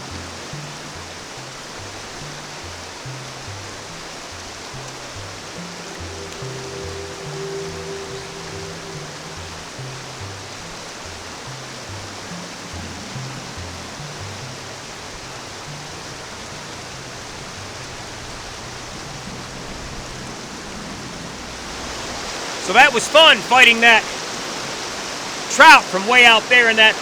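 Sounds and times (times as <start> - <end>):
low bass background music: 0.0 - 22.2
fast-flowing river water: 0.0 - 27.0.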